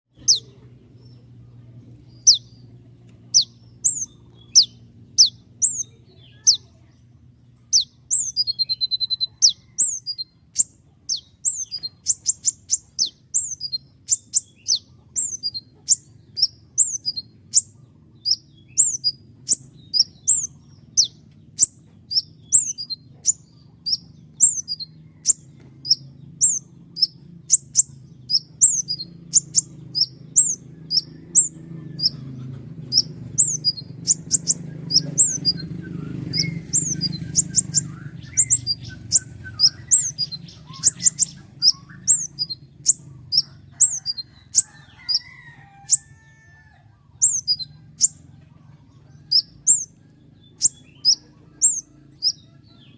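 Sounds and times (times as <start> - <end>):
faint low hum: 0.1 - 52.9.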